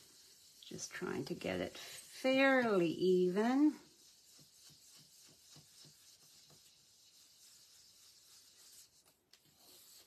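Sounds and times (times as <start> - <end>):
brush rubbing on cardstock: 0.0 - 10.0.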